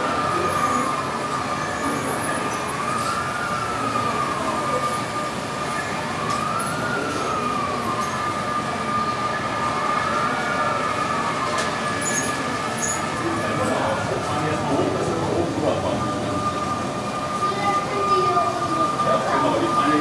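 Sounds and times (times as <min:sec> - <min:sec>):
model trains running: 0:00.0 - 0:20.0
siren-like rising and falling tone: 0:00.0 - 0:20.0.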